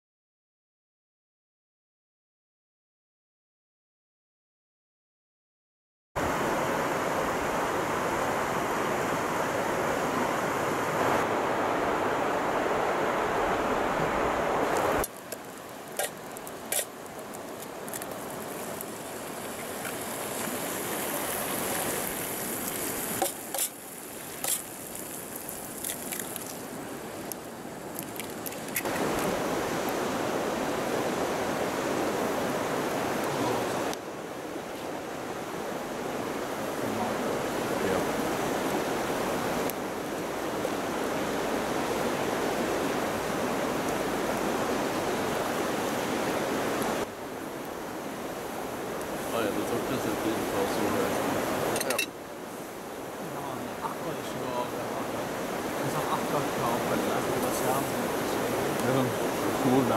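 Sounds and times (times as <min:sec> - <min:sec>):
rushing river water: 0:06.2 - 0:59.9.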